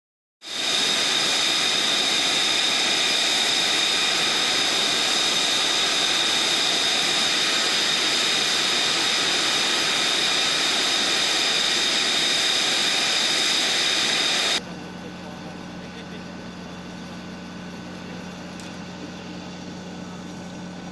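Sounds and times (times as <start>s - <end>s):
jet engine running: 0.4s - 20.9s.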